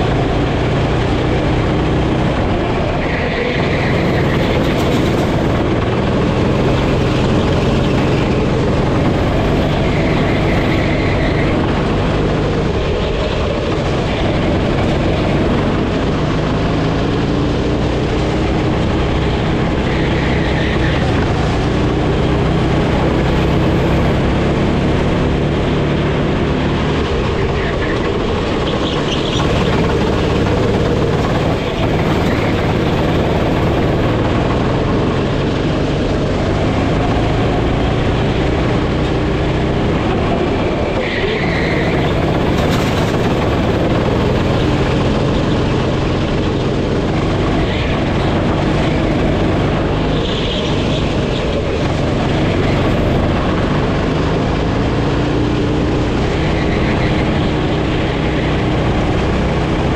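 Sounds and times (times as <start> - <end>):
go-kart engine revving: 0.0 - 59.9
steady rush of noise: 0.0 - 59.9.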